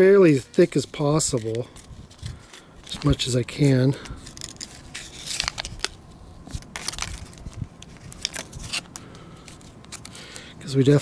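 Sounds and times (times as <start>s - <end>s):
paper backing peeling off tape: 0.5s - 10.4s.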